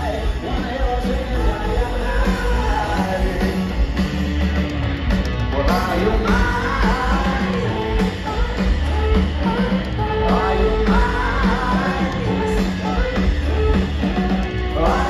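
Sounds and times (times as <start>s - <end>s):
lead vocal singing: 0.0s - 4.0s, 5.5s - 15.0s
live rock band: 0.0s - 15.0s.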